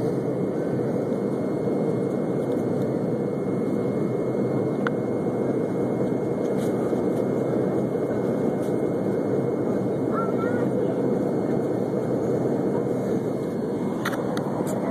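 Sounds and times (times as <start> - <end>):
airliner cabin engine rush: 0.0 - 14.9.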